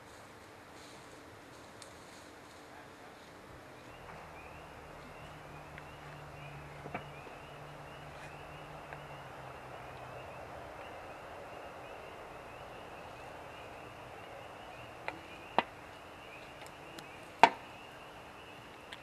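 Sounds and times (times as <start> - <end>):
distant animal chorus chirping: 2.8 - 19.0.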